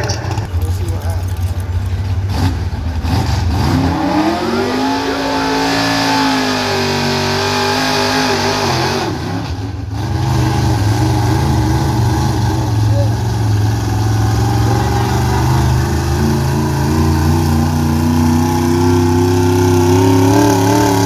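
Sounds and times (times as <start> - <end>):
pickup truck engine revving: 0.0 - 21.0.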